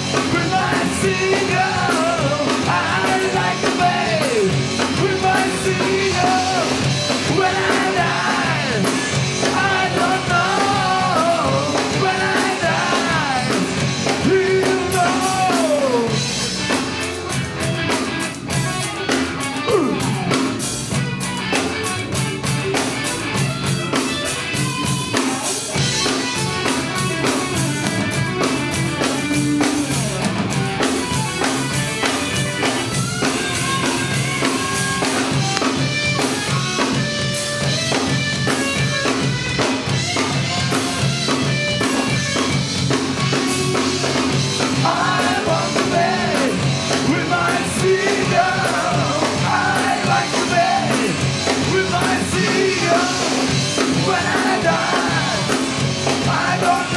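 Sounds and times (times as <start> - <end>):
rock drums and guitar: 0.0 - 56.9.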